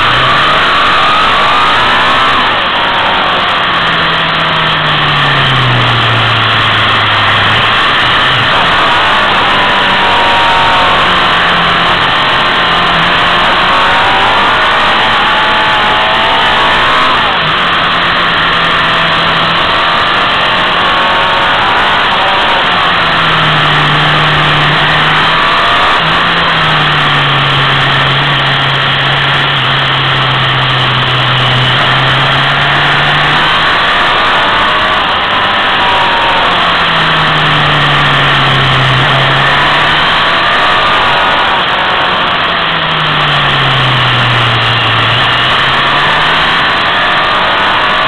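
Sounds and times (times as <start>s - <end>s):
motorcycle engine: 0.0s - 48.0s.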